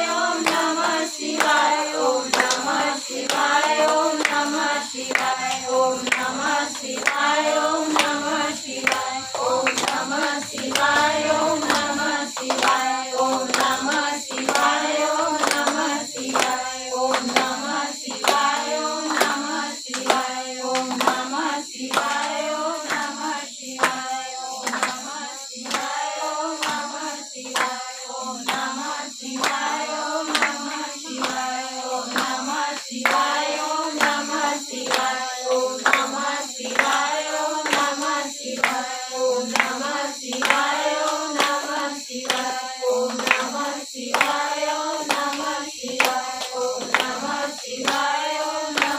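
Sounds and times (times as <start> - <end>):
rhythmic hand-clapping: 0.0 - 48.9
women singing together: 0.0 - 48.9.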